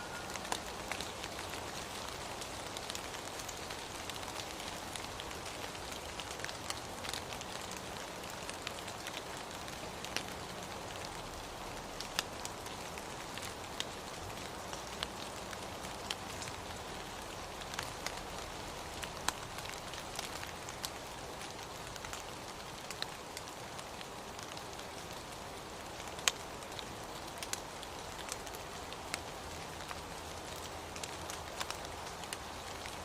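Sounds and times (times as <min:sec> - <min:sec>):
raindrops tapping close by: 0:00.0 - 0:33.0
steady rain hiss: 0:00.0 - 0:33.0.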